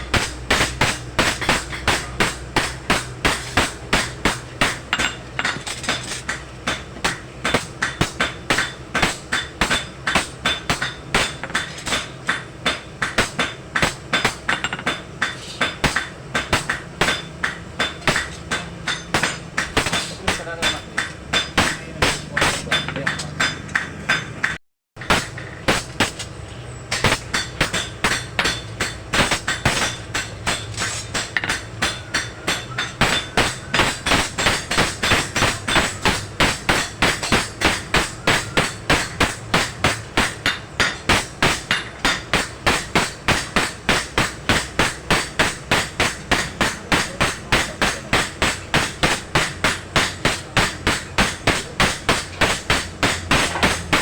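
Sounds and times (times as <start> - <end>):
hammers striking steel on anvil: 0.0 - 54.0.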